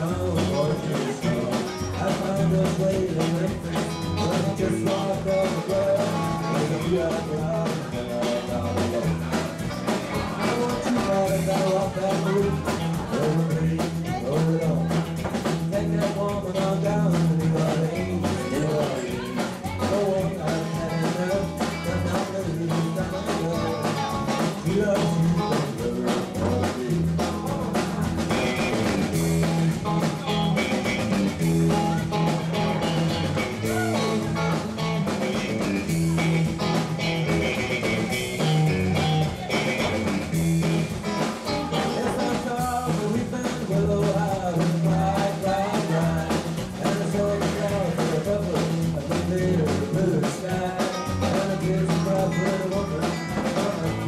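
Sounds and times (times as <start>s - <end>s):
bass guitar: 0.0s - 54.0s
drums: 0.0s - 54.0s
electric guitar: 0.0s - 54.0s.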